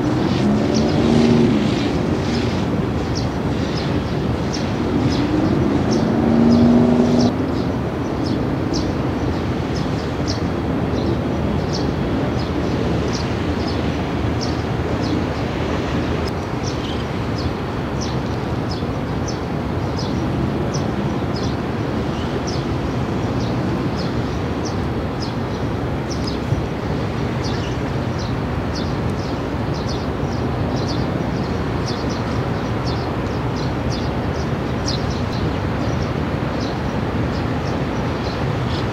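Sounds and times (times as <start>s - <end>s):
distant vehicle traffic: 0.0s - 38.9s.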